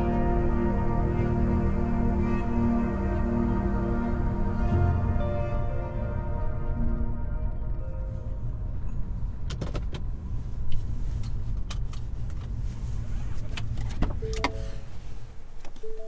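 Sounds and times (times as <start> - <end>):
van cab rumble: 0.0 - 16.0.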